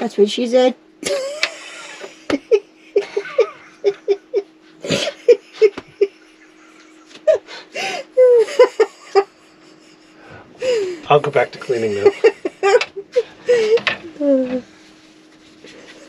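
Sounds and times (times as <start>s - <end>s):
faint steady hum: 0.0s - 16.0s
giggling laughter: 1.0s - 13.9s, 15.7s - 16.0s.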